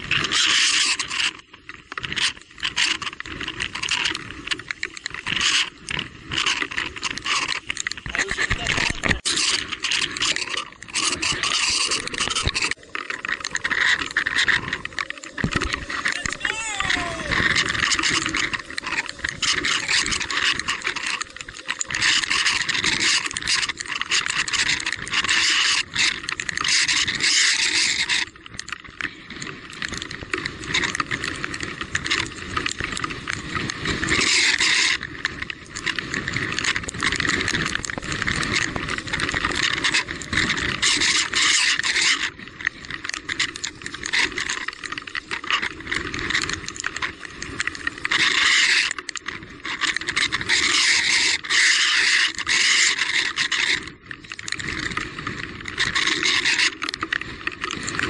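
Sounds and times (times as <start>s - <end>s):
bike scraping over rocky trail: 2.1s - 58.0s.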